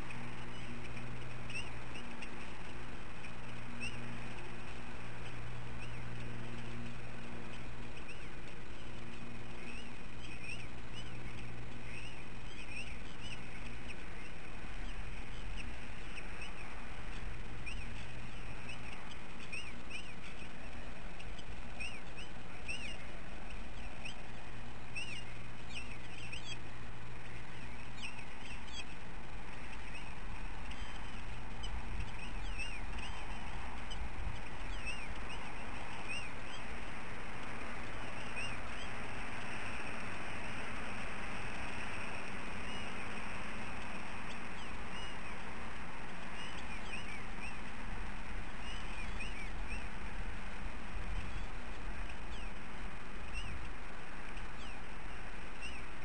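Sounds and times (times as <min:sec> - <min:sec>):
eaglets chirping: 0:00.0 - 0:56.0
low steady hum: 0:00.0 - 0:56.0.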